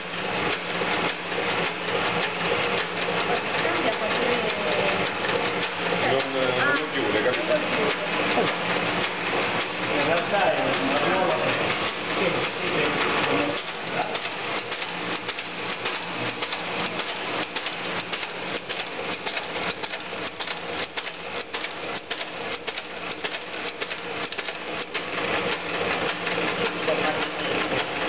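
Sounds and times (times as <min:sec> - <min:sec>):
pasta machine clattering: 0:00.0 - 0:28.0.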